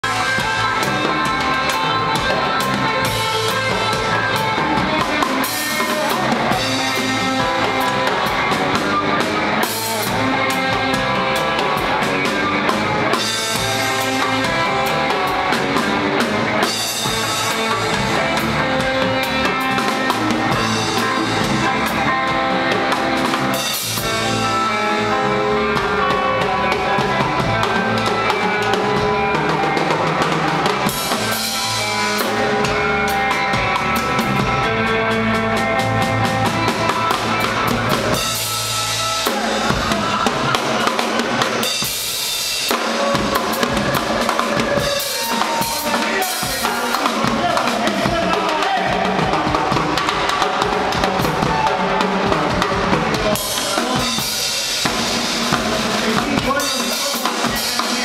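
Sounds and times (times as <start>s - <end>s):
drum kit steady beat: 0.0s - 58.0s
pop-rock band playing live: 0.0s - 58.0s.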